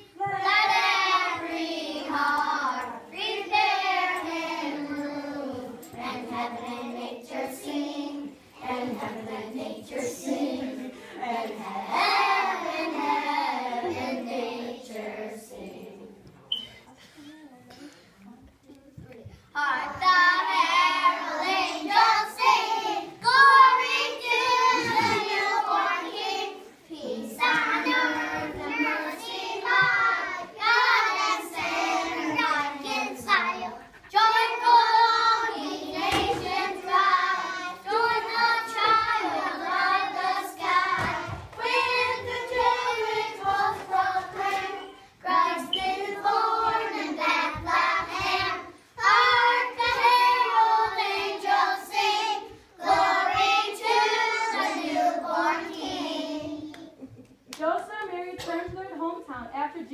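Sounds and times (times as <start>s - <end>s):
children singing a carol: 0.0s - 16.2s, 19.5s - 56.8s.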